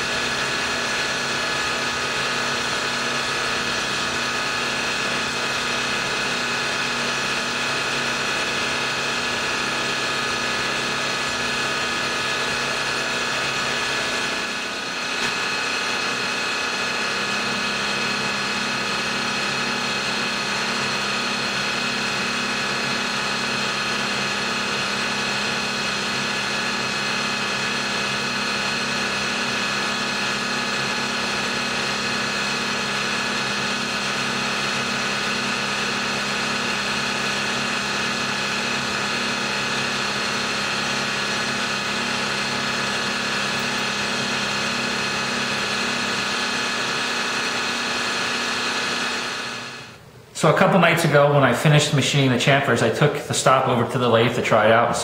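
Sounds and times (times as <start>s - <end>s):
milling machine cutting metal: 0.0s - 50.0s.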